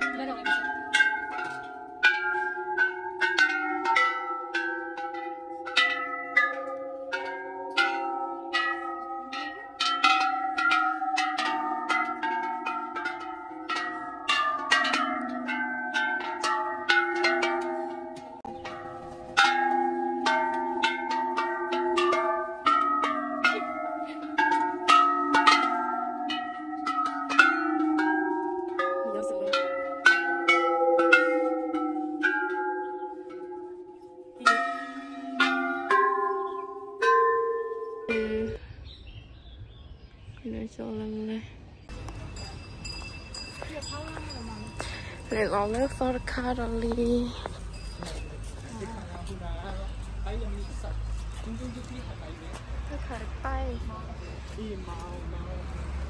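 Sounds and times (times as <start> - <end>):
metal temple bells ringing: 0.0 - 40.0, 41.8 - 56.0.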